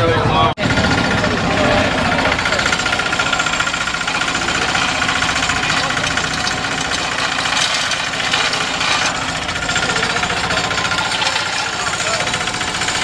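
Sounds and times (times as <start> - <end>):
loud motorcycle engine running: 0.0 - 13.0.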